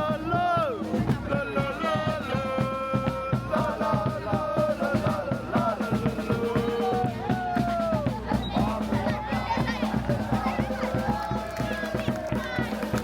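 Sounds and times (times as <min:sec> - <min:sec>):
singing over drum beat: 0:00.0 - 0:13.0.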